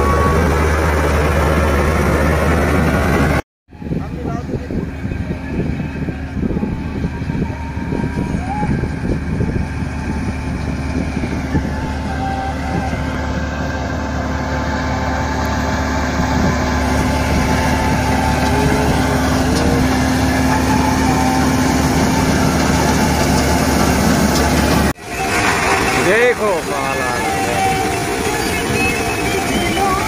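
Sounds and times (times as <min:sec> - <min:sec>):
combine harvester drone: 0:00.0 - 0:30.0.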